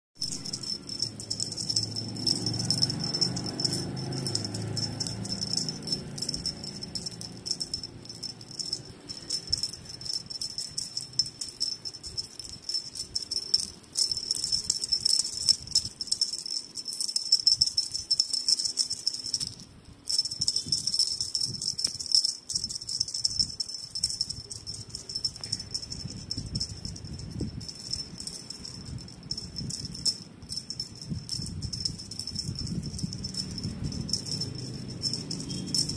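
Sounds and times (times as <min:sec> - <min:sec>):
cat toy rattling and jingling: 0:00.2 - 0:35.9.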